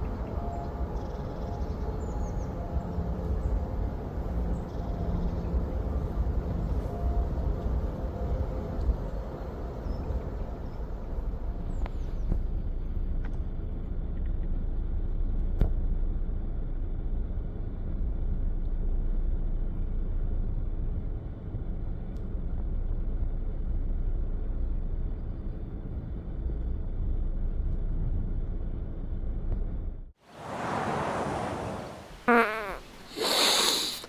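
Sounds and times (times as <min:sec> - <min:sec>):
low outdoor rumble: 0:00.0 - 0:33.1.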